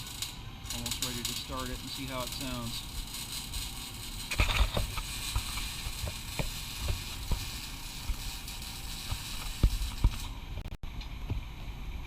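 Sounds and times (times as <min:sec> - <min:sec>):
steady hiss: 0:00.0 - 0:10.6.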